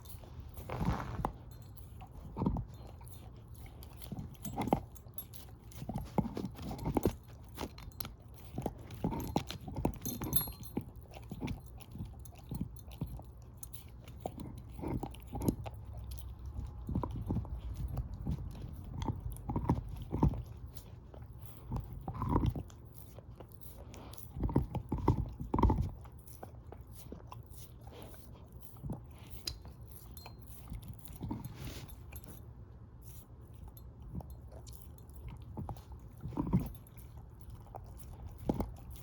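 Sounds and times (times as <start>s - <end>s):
dog chewing and crunching bone: 0.0s - 39.0s.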